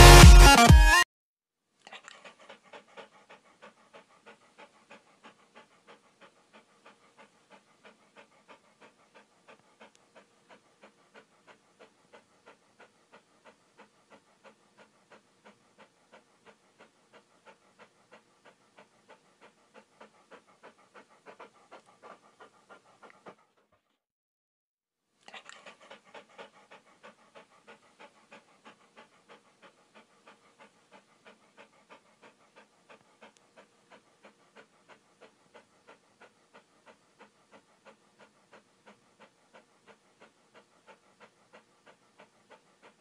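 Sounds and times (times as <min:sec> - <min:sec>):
dog panting: 0:01.8 - 0:24.0, 0:25.2 - 0:43.0.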